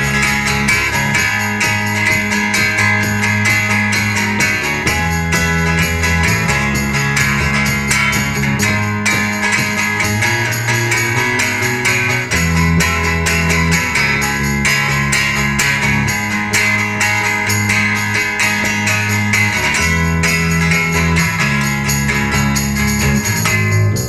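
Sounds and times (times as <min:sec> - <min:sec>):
acoustic guitars strumming: 0:00.0 - 0:24.0.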